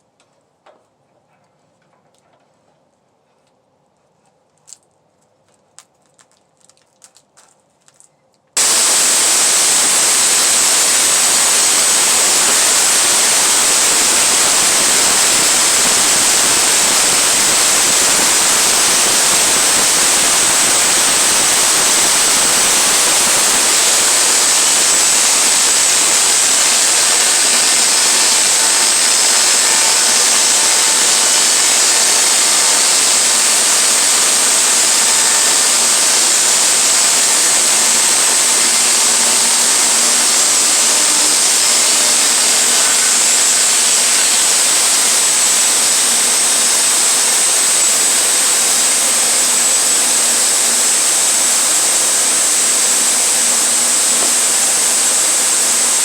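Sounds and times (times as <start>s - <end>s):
sawmill rushing noise: 8.6s - 56.0s
thin high whine: 8.6s - 56.0s.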